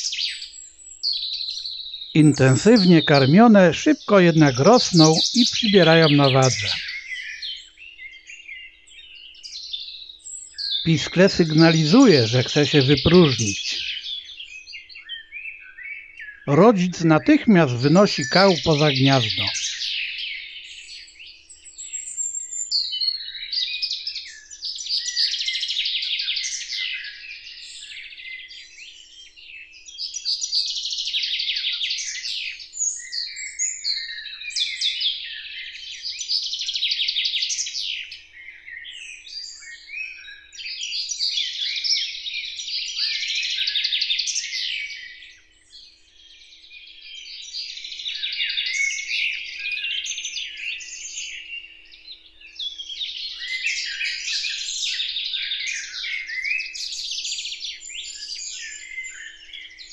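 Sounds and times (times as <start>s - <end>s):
songbirds twittering: 0.0s - 59.9s.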